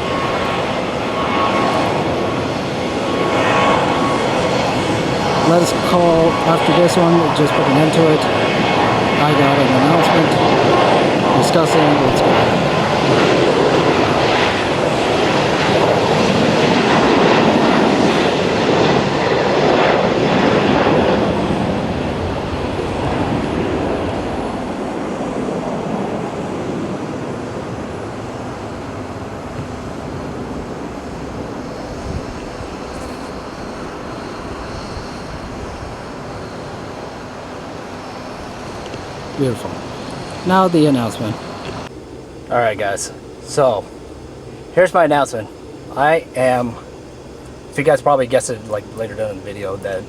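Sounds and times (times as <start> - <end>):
jet engines at takeoff: 0.0 - 50.0.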